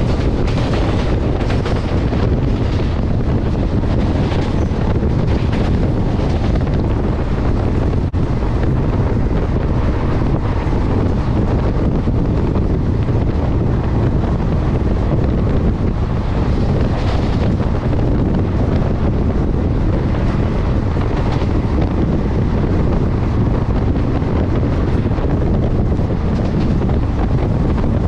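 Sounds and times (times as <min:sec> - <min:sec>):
train rumbling at speed: 0:00.0 - 0:28.0
wind buffeting microphone: 0:00.0 - 0:28.0.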